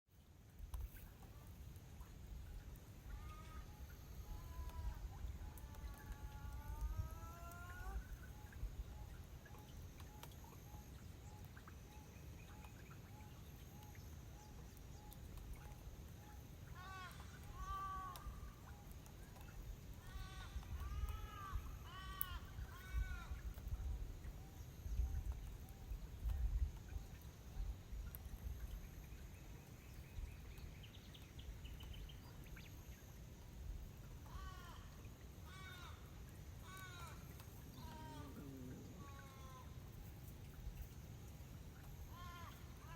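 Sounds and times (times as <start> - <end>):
outdoor background noise: 0.1 - 42.9.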